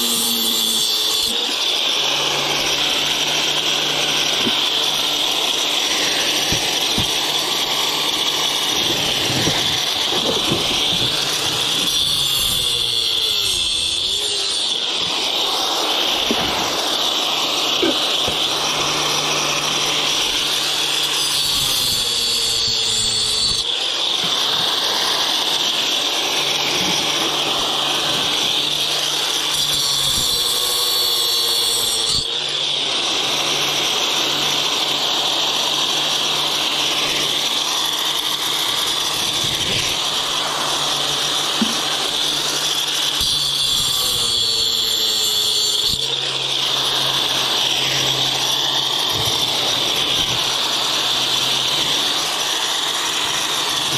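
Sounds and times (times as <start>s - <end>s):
power tool cutting metal: 0.0s - 53.9s.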